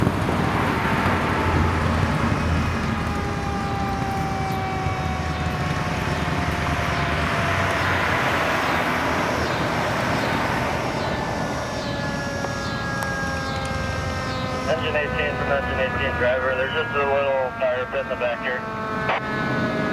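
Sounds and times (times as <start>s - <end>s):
diesel engine rumble: 0.0s - 19.9s
road noise: 0.0s - 19.9s
siren wailing: 0.0s - 19.9s
fast electronic siren: 0.4s - 19.9s.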